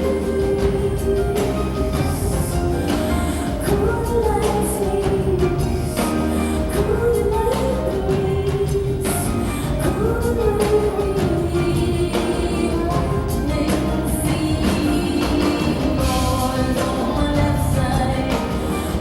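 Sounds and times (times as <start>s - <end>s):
live band music: 0.0s - 19.0s
woman singing: 0.0s - 19.0s.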